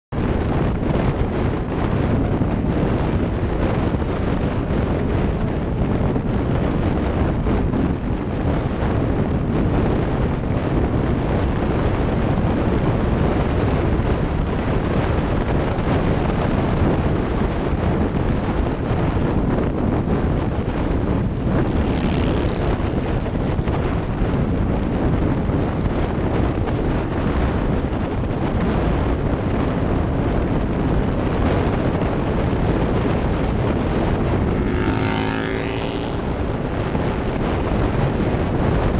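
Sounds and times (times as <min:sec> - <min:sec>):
motorcycle road noise: 0:00.1 - 0:38.9
wind rush on microphone: 0:00.1 - 0:38.9.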